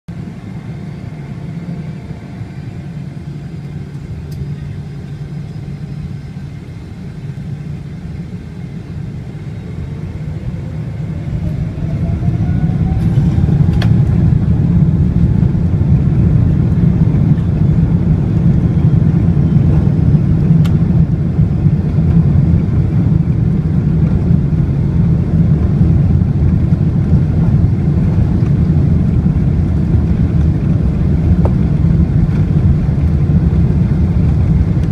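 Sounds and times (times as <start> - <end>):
jet engines spooling up: 0.4 - 34.9.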